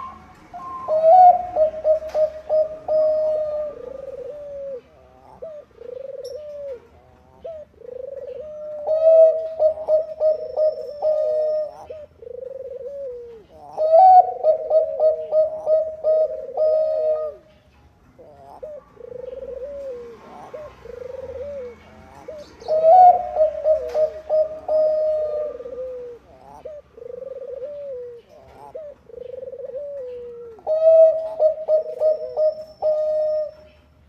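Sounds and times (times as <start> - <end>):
dove cooing song: 0.0 - 34.0.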